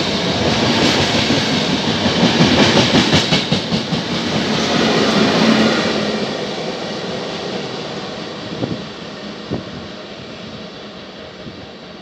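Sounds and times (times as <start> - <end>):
electric train rumble: 0.0 - 12.0.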